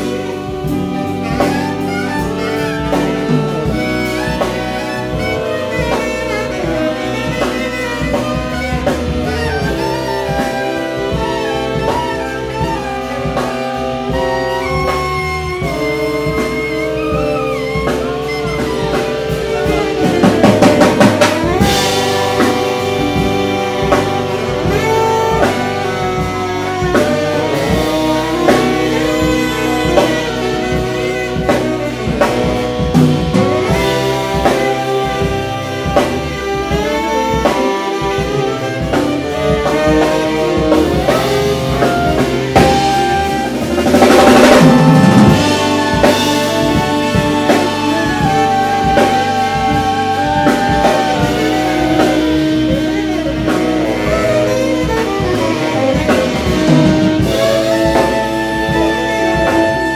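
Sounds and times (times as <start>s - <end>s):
drum kit: 0.0s - 59.9s
saxophones playing melody: 0.0s - 59.9s.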